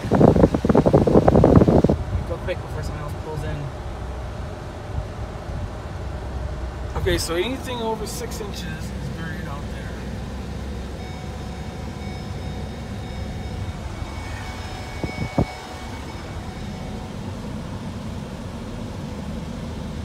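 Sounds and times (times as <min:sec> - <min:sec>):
faint steady whine: 0:00.0 - 0:20.0
vehicle rumble from inside cab: 0:00.0 - 0:20.0.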